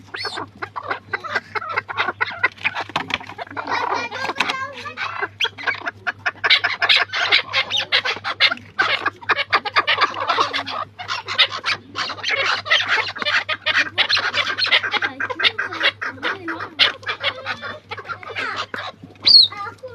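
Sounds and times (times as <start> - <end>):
partridges calling: 0.0 - 19.9.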